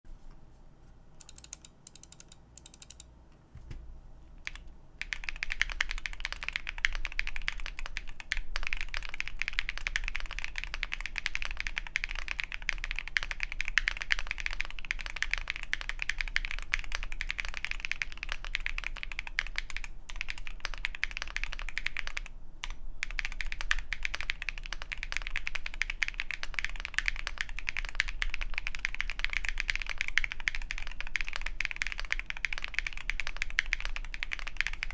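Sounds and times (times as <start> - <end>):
typing on mechanical keyboard: 1.2 - 3.1, 4.4 - 34.9.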